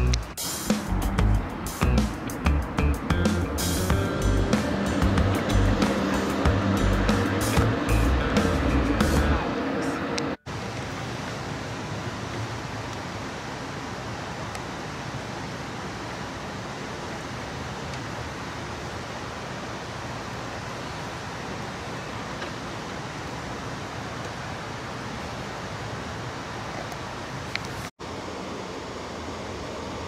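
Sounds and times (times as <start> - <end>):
train car rumble and hiss: 0.0 - 30.0.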